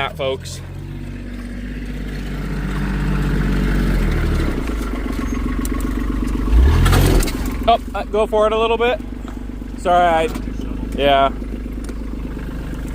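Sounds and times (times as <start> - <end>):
loader engine under load: 0.0 - 12.9.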